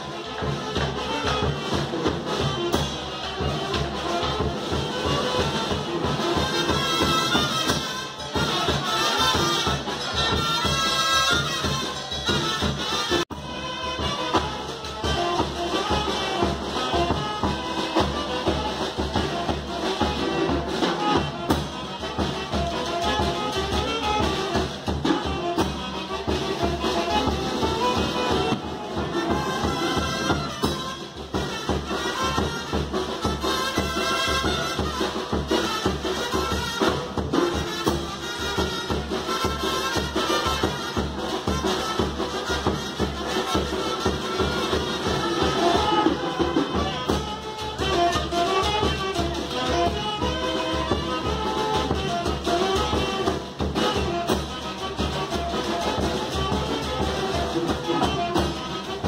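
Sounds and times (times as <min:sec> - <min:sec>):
brass band music: 0:00.0 - 0:59.0.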